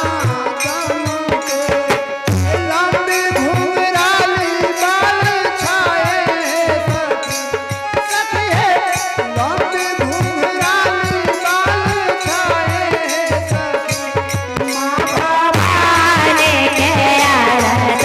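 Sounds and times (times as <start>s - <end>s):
devotional melody: 0.0s - 18.0s.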